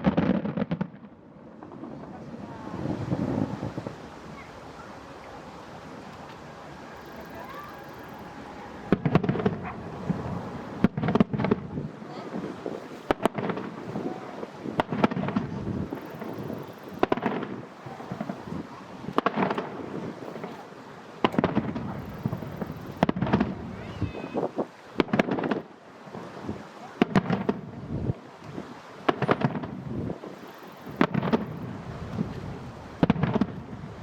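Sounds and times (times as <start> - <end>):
fireworks bursting with sharp bangs: 0.0 - 5.4, 6.2 - 34.0.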